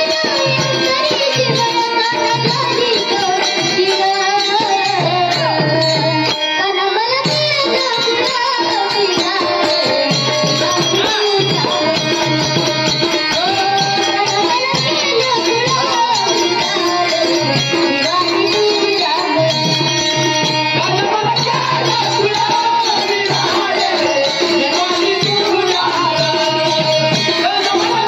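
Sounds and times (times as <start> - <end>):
girl singing: 0.0 - 28.0
harmonium: 0.0 - 28.0
tabla drumming: 0.0 - 28.0.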